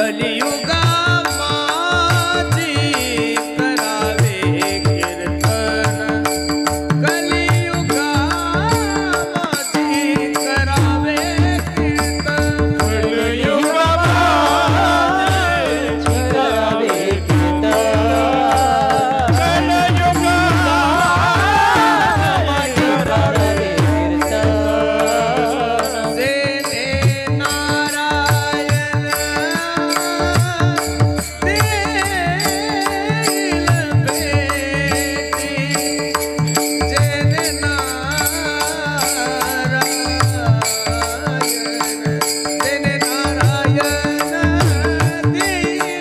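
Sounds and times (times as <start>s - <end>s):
harmonium drone: 0.0s - 46.0s
person singing melody: 0.0s - 46.0s.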